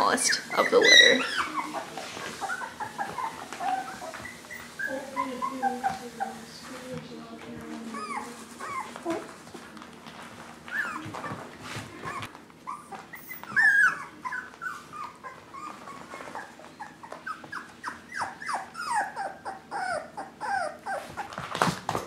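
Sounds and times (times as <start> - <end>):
puppies whining: 0.0 - 22.0.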